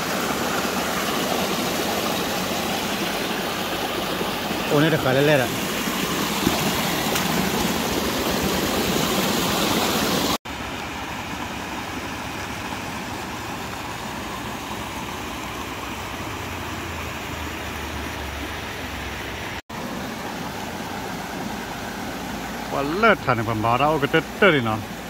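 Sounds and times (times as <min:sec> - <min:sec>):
water rushing through channel: 0:00.0 - 0:25.0
water spilling into flooded field: 0:00.0 - 0:25.0.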